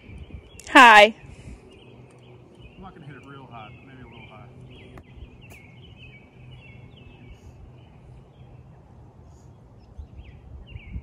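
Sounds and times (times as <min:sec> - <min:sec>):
songbirds chirping: 0:00.0 - 0:11.0
wind rumble on microphone: 0:00.0 - 0:11.0.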